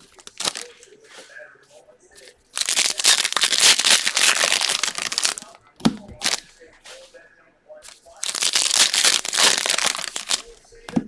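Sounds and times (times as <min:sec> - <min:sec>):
foil wrappers crinkling: 0:00.0 - 0:01.3, 0:02.2 - 0:07.1, 0:07.8 - 0:10.8.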